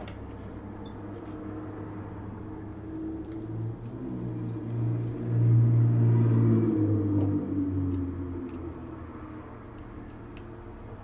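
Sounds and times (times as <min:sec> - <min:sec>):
low motor-like hum: 0:00.0 - 0:11.0.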